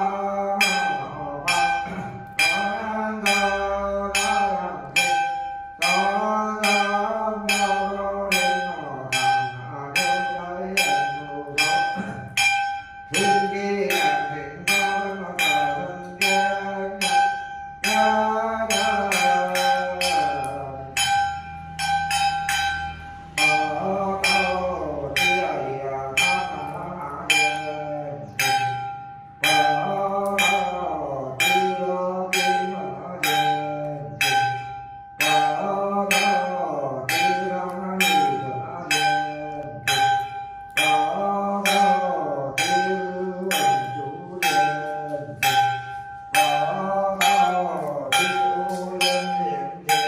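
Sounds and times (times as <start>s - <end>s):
man chanting: 0.0s - 50.0s
ritual bell striking: 0.0s - 50.0s.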